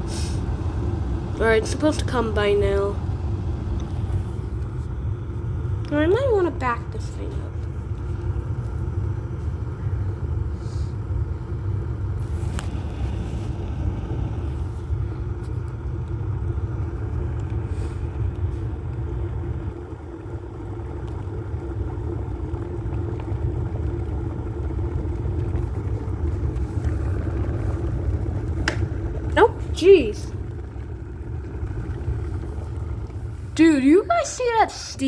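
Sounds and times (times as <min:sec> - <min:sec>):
electric kettle rumbling: 0:00.0 - 0:35.0.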